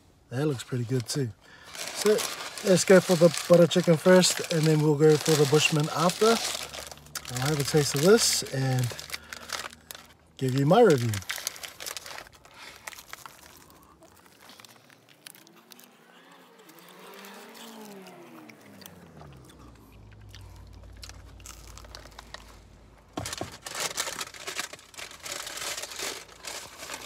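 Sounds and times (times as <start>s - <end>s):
crunching pastry crust: 0.8s - 27.0s.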